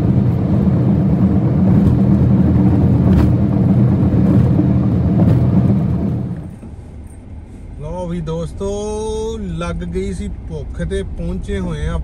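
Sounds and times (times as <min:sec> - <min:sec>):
car interior road noise: 0:00.0 - 0:12.0.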